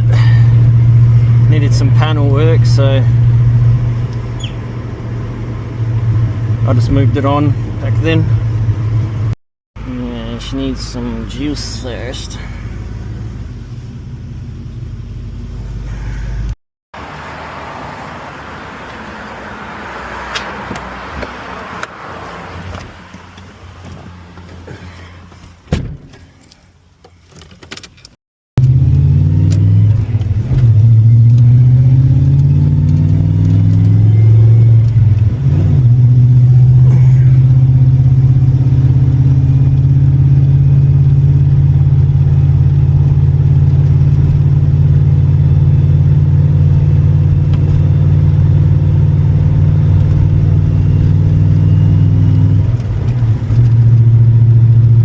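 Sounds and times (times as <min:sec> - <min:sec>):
car engine accelerating: 0:00.0 - 0:16.0, 0:17.0 - 0:25.4, 0:28.6 - 0:55.0.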